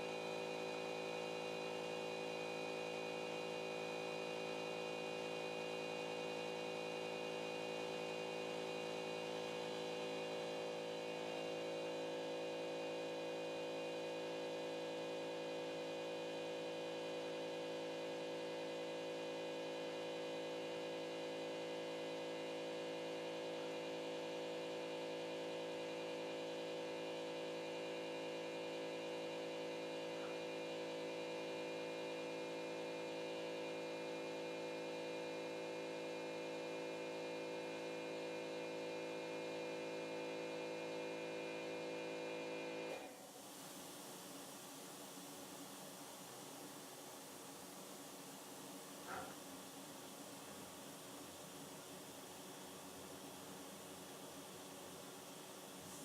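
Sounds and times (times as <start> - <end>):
electrical hum of drawing machine: 0.0 - 56.0.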